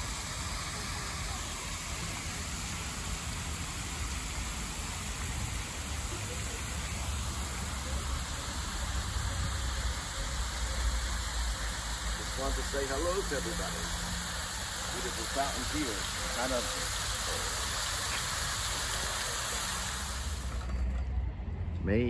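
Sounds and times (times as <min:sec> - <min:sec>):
fountain jets splashing: 0:00.0 - 0:20.7.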